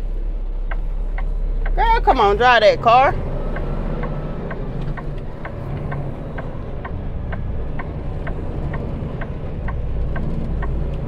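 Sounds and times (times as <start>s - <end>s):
diesel engine rumbling: 0.0s - 11.0s
turn signal ticking: 0.0s - 11.0s.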